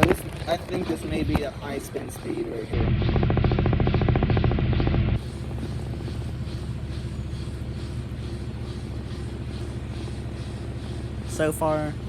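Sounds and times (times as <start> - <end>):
fast-pulsing noise: 0.0 - 12.0
washing machine spinning: 0.0 - 12.0.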